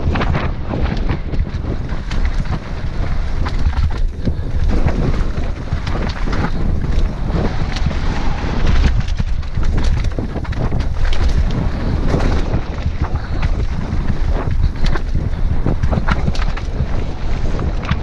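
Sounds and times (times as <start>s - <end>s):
bike tyres rattling over stones: 0.0s - 18.0s
wind buffeting microphone: 0.0s - 18.0s.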